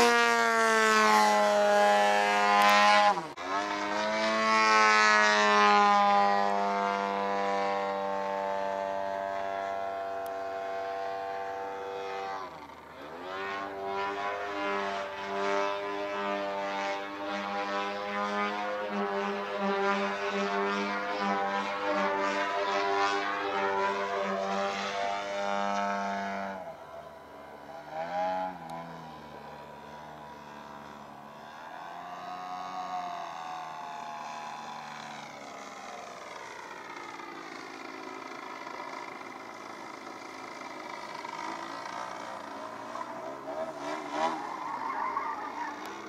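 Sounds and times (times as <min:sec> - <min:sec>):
model airplane motor and propeller: 0:00.0 - 0:46.0.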